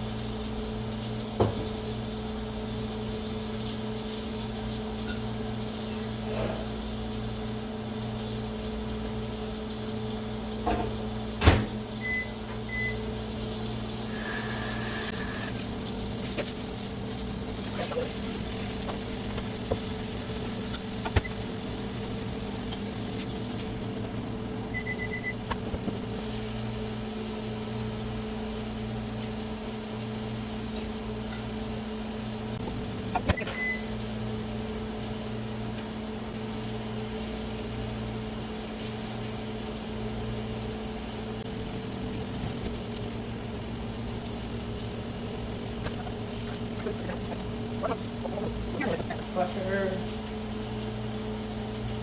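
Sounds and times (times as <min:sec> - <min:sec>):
microwave oven humming: 0:00.0 - 0:52.0.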